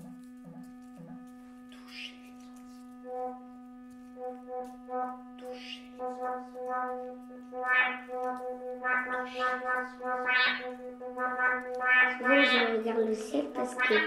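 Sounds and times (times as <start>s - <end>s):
buzzy horn-like pulsing notes: 0.0s - 14.0s
low drone from tube instrument: 0.0s - 14.0s.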